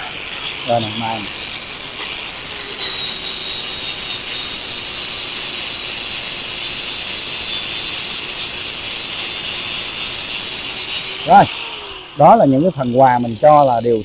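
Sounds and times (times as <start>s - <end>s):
angle grinder grinding steel: 0.0s - 14.0s.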